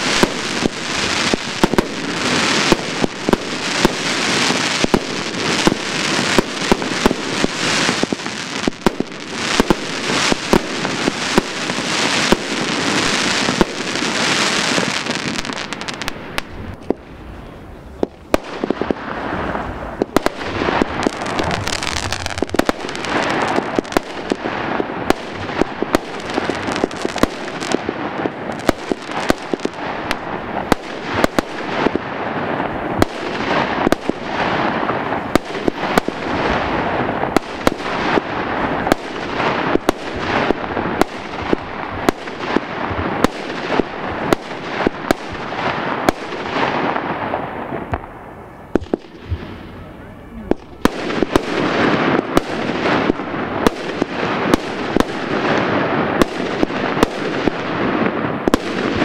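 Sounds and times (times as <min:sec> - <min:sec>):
fireworks bangs: 0:00.0 - 0:59.0
fireworks hiss and crackle: 0:00.0 - 0:59.0.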